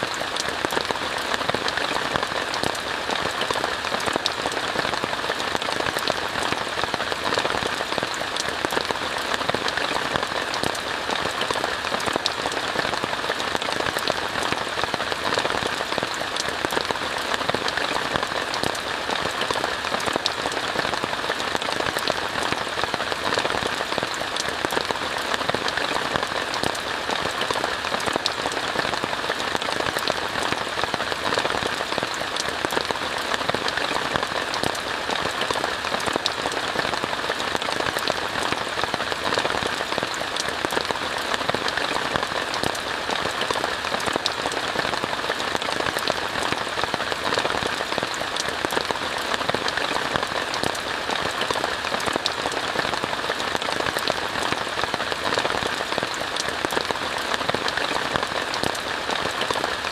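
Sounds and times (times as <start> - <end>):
rain on a tent: 0.0 - 59.9
sharp raindrop impacts: 0.0 - 59.9.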